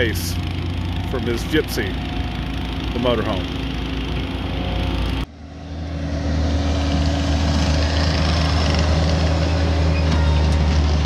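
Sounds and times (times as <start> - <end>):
track loader diesel engine: 0.0 - 11.0.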